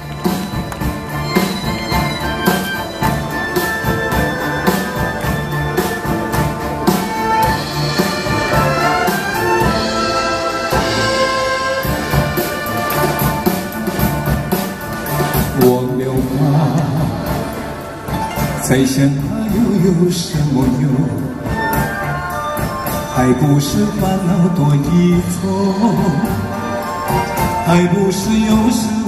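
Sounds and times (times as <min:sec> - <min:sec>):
orchestra playing: 0:00.0 - 0:29.0.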